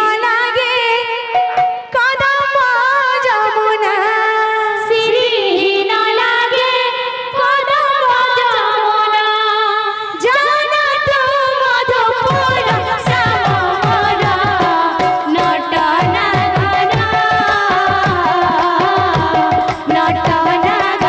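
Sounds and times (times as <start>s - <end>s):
woman singing with vibrato: 0.0s - 21.0s.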